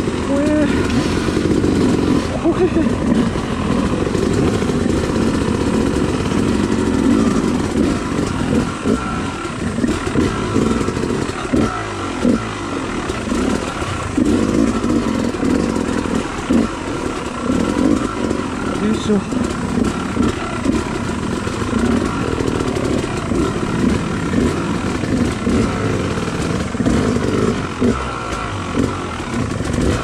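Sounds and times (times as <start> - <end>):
dirt bike engine: 0.0 - 30.0.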